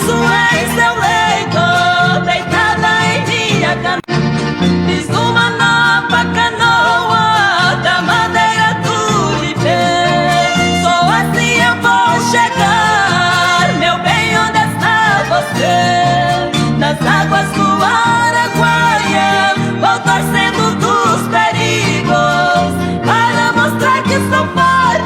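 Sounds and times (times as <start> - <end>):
person singing: 0.0 - 4.1, 4.8 - 25.0
bass and strummed accompaniment: 0.0 - 25.0.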